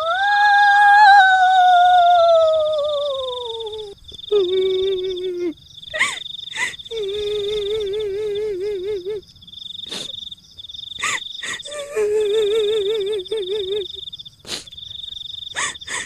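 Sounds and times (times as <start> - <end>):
insect trill: 0.0 - 16.0.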